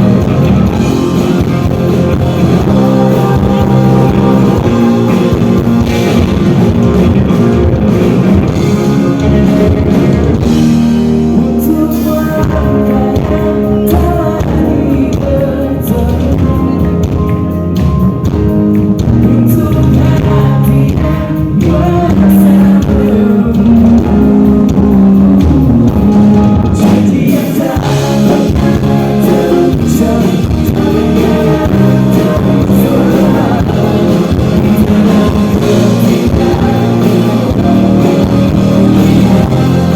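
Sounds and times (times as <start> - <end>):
live pop-rock band with singing: 0.0 - 39.9.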